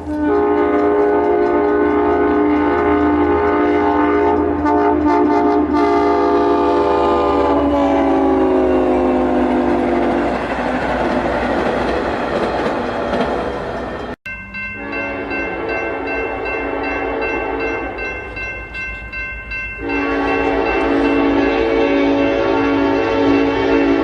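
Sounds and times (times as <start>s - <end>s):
multi-chime train horn: 0.0s - 10.3s, 14.3s - 24.0s
passing train rumble and rattle: 0.0s - 24.0s.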